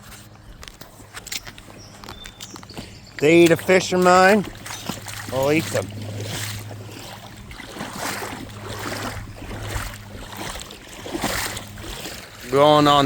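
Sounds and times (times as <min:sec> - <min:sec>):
creek water sloshing: 0:00.0 - 0:13.0
steady low hum: 0:00.0 - 0:13.0.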